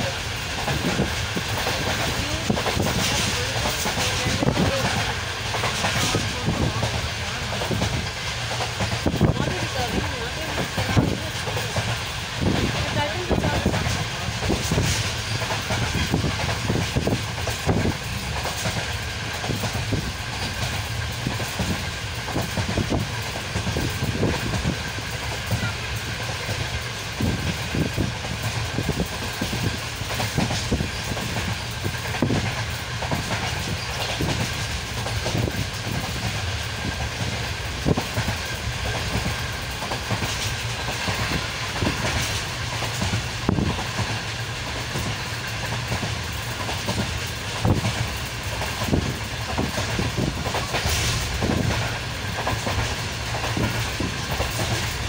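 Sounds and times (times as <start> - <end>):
train rumble and rushing hiss: 0.0 - 55.0
wheels clacking over rail joints: 0.0 - 55.0.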